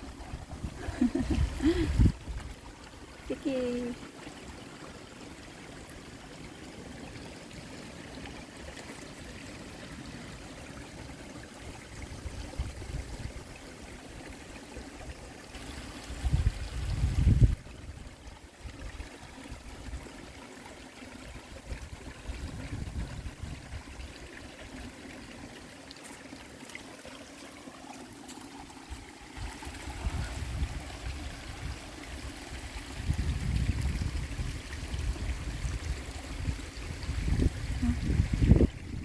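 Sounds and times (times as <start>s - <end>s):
river water flowing: 0.0s - 39.0s.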